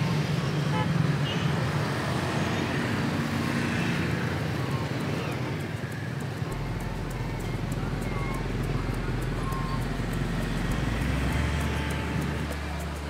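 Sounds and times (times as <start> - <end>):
road noise: 0.0 - 13.0
scooters and cars passing: 0.0 - 13.0.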